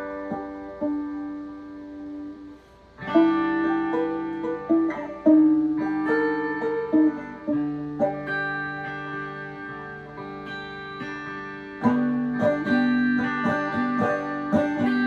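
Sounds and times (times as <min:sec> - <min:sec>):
electric guitar and banjo playing: 0:00.0 - 0:15.0.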